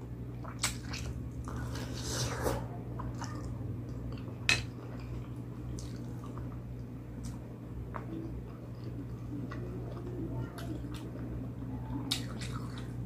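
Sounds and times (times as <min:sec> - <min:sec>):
steady low hum: 0:00.0 - 0:13.0
wet squishy chewing: 0:00.4 - 0:02.1, 0:02.9 - 0:11.3, 0:11.9 - 0:13.0.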